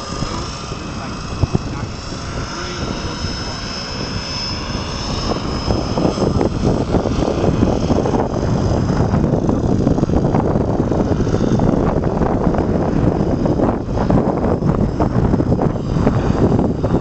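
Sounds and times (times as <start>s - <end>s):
rc plane motor whine: 0.0s - 17.0s
wind buffeting microphone: 0.0s - 17.0s.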